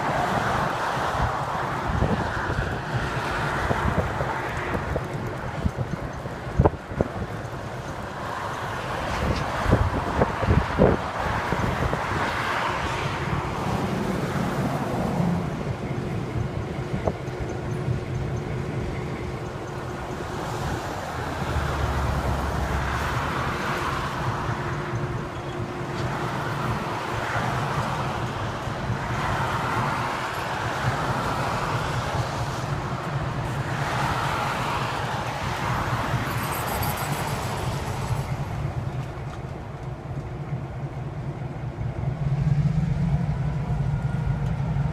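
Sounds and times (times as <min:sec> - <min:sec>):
diesel locomotive engine hum: 0:00.0 - 0:44.9
wind noise on microphone: 0:00.0 - 0:44.9.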